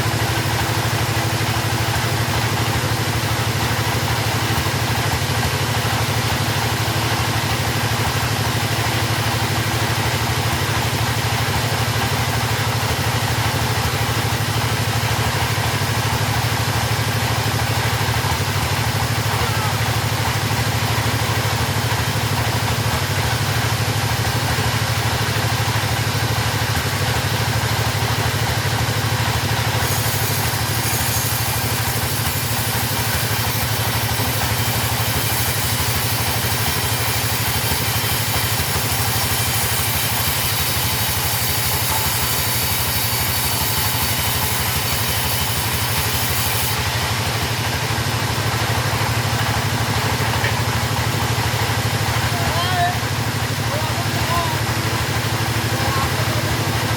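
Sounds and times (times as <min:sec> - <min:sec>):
chainsaw engine running: 0:00.0 - 0:56.9.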